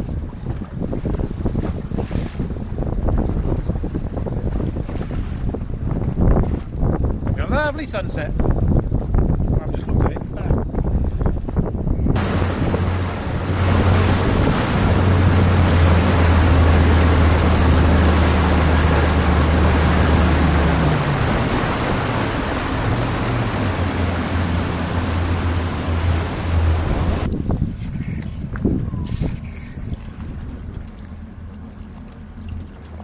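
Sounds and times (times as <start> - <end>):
wind and spray rushing: 0.0 - 30.7
boat engine droning: 0.0 - 33.0.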